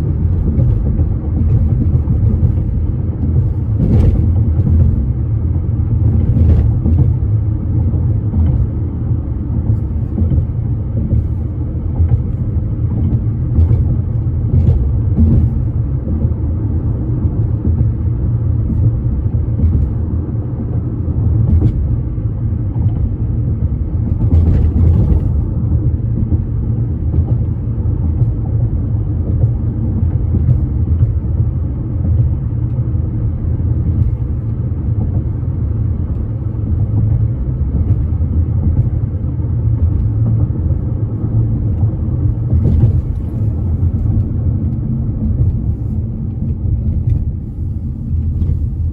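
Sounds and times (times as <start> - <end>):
low rumble of a bridge: 0.0 - 48.9.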